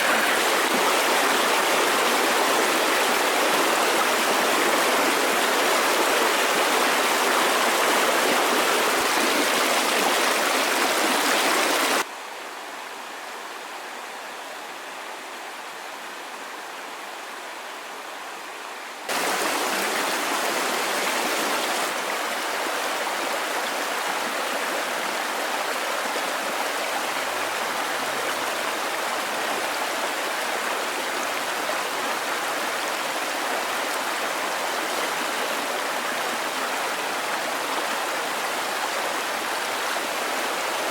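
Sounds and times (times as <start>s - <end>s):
flowing water rushing: 0.0s - 12.1s, 19.0s - 40.9s.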